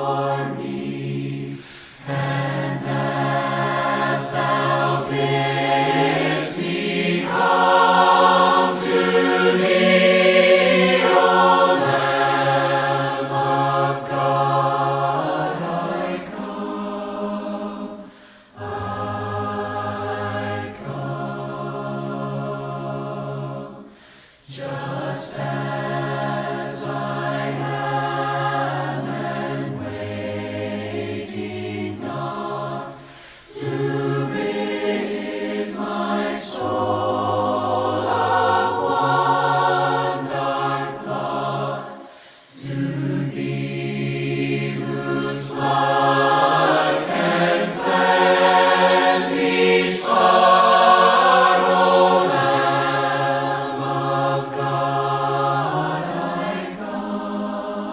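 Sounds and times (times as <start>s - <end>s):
choir singing a slow hymn: 0.0s - 57.9s.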